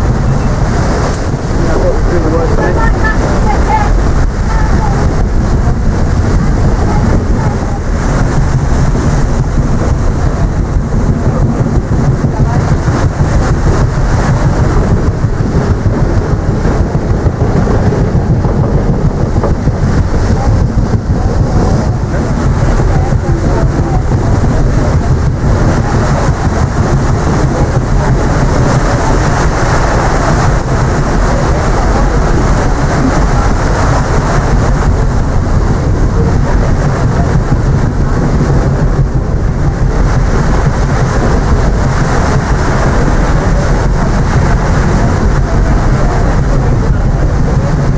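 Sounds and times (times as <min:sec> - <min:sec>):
ship low running noise: 0:00.0 - 0:47.9
wind buffeting microphone: 0:00.0 - 0:47.9.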